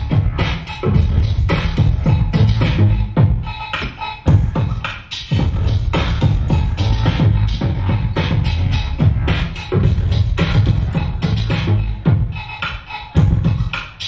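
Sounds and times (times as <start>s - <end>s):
electronic hip-hop dance track: 0.0s - 14.0s.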